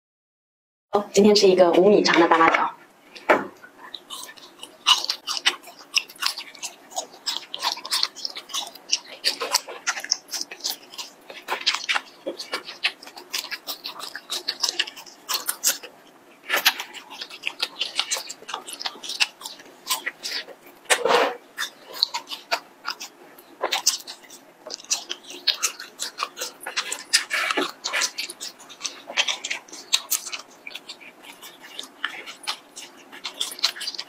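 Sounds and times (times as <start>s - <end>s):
wet chewing mouth clicks: 3.1s - 34.0s.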